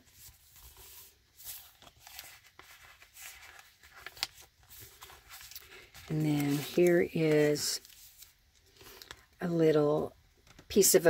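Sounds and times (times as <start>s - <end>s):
paper pages rustling: 0.0s - 9.3s.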